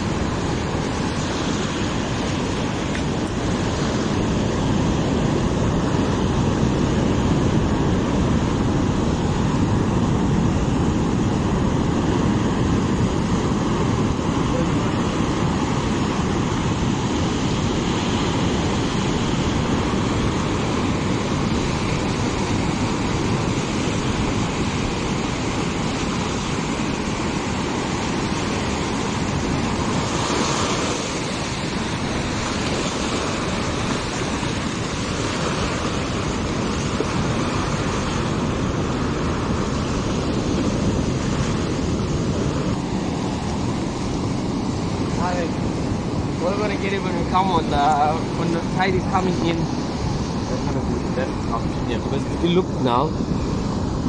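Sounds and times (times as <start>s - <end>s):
surf breaking on shore: 0.0s - 54.0s
wind on microphone: 0.0s - 54.0s.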